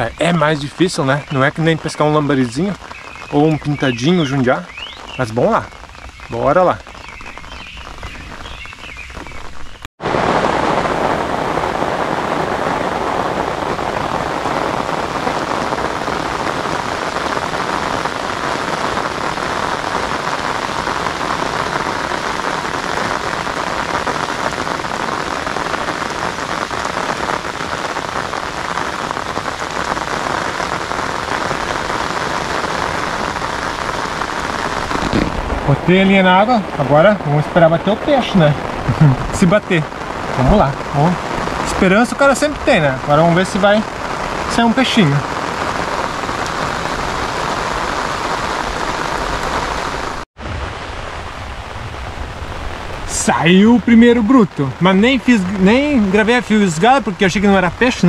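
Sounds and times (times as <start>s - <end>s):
heavy rain on water: 0.0s - 58.0s.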